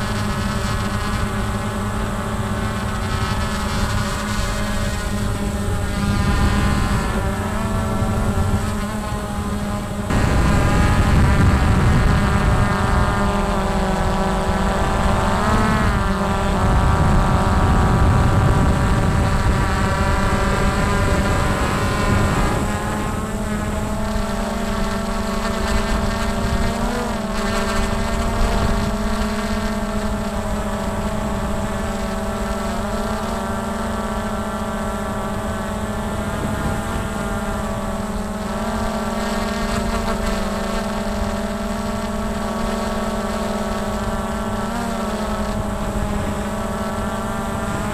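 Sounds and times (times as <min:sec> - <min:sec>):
drone propellers whining: 0:00.0 - 0:47.9.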